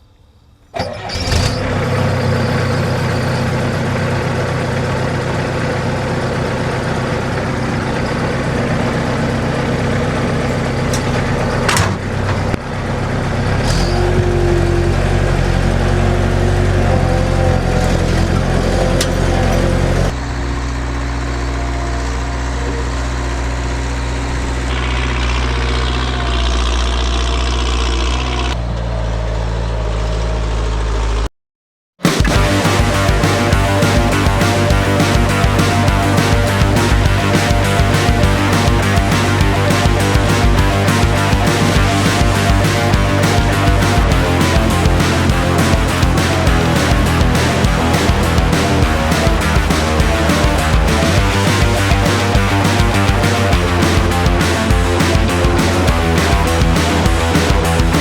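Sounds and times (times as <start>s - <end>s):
diesel engine running: 0.8s - 31.3s, 32.0s - 58.0s.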